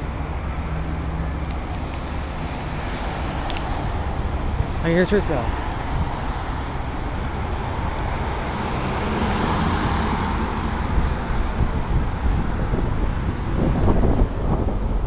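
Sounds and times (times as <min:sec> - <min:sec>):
road traffic passing: 0:00.0 - 0:15.0
wind rumbling on microphone: 0:00.0 - 0:15.0.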